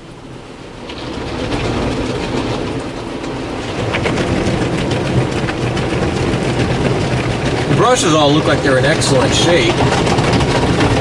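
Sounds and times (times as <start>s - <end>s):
car wash brush slapping car: 0.6s - 11.0s.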